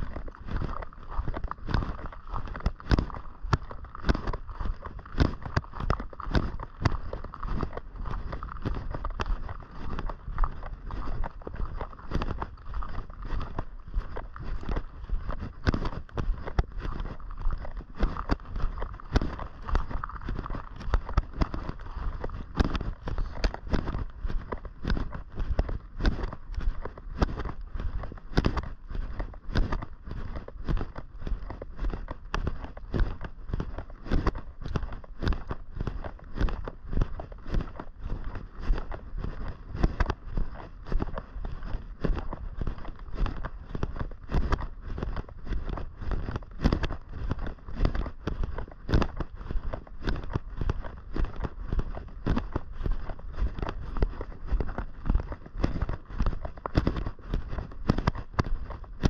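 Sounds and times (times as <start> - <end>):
footsteps walking: 0.0 - 59.0.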